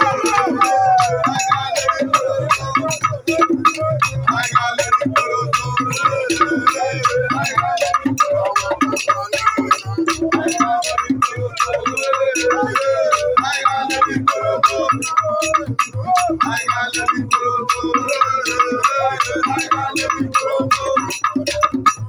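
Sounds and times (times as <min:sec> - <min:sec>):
hand drums: 0:00.0 - 0:22.0
men singing together: 0:00.0 - 0:22.0.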